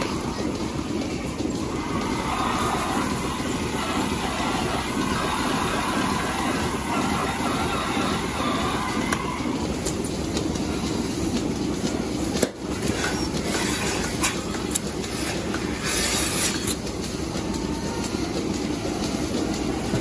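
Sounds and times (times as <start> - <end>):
milking equipment rumbling: 0.0 - 20.0.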